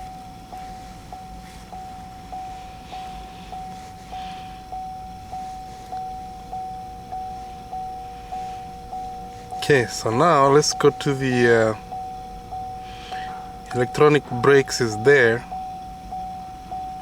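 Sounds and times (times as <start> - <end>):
lower warning tone: 0.0 - 17.0
vehicle warning chime: 0.0 - 17.0.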